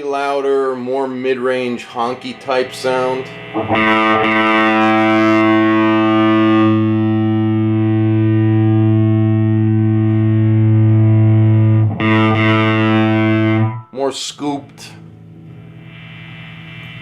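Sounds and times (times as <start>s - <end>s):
fuzz electric guitar chord: 0.4s - 13.9s, 15.1s - 17.0s.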